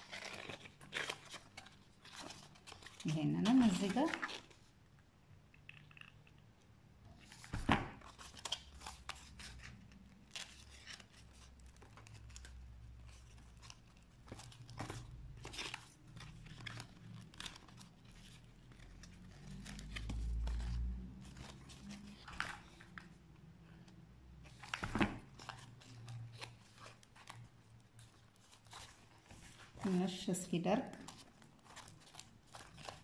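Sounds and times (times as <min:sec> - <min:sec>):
foam sheets and plastic crinkling: 0:00.0 - 0:04.8, 0:07.1 - 0:23.2, 0:24.4 - 0:33.0.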